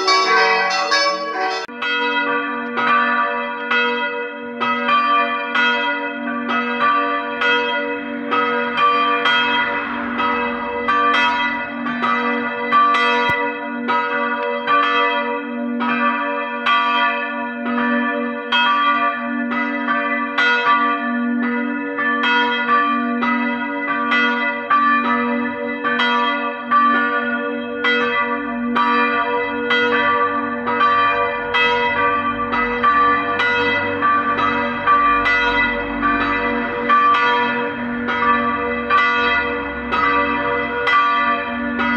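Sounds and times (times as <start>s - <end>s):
church bells ringing in a peal: 0.0s - 41.9s.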